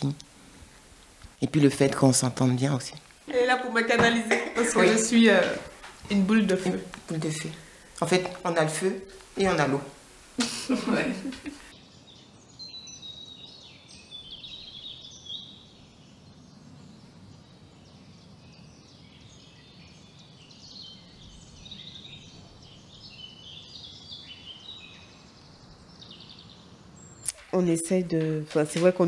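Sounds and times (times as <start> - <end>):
birds chirping: 0.0 - 29.0
faint low background noise: 0.0 - 29.0.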